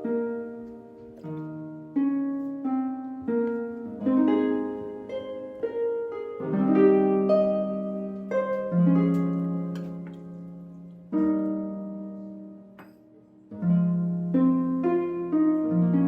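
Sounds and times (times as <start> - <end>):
gentle instrumental melody: 0.0 - 16.0.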